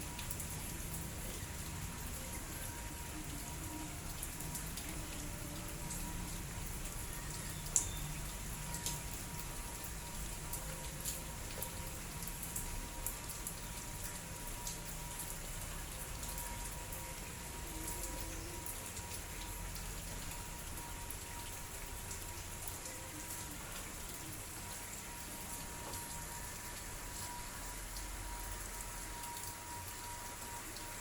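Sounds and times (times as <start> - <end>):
light drizzle: 0.0 - 31.0
raindrops ticking on surface: 0.0 - 31.0.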